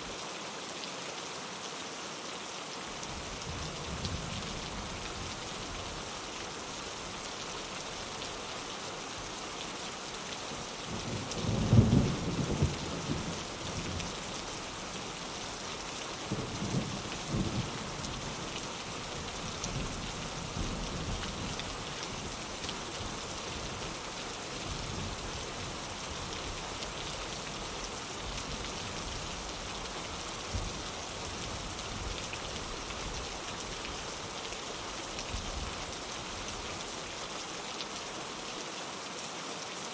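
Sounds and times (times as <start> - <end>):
rain on a window: 0.1 - 39.9.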